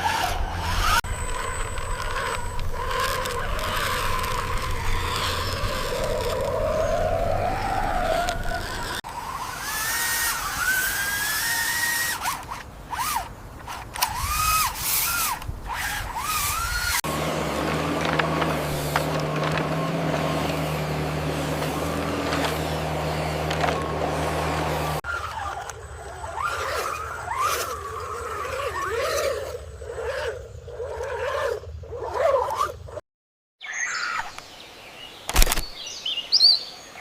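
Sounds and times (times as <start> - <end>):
toy car electric motors: 0.0 - 32.7.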